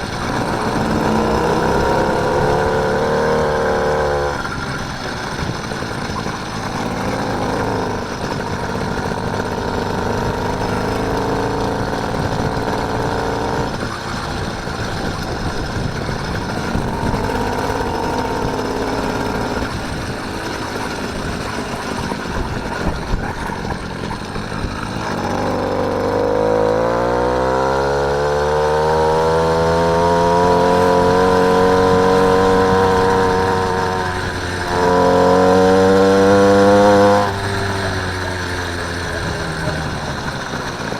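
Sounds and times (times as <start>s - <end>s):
motorbike engine running: 0.0s - 40.9s.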